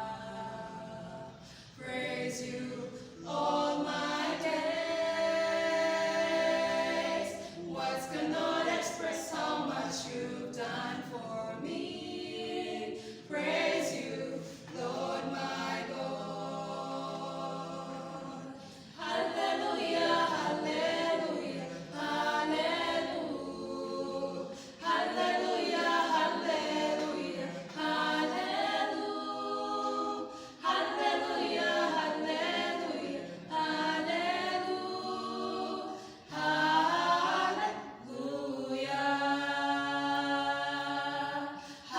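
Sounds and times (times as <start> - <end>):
choir singing a cappella: 0.0 - 41.9.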